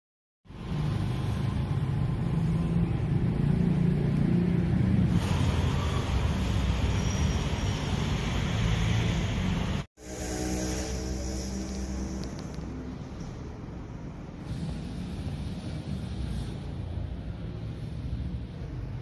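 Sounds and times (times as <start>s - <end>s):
road traffic noise: 0.4s - 19.0s.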